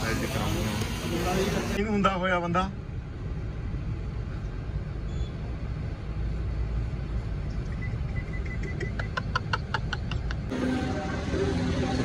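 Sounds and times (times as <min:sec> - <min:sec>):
traffic rumble inside car: 0:00.0 - 0:12.0.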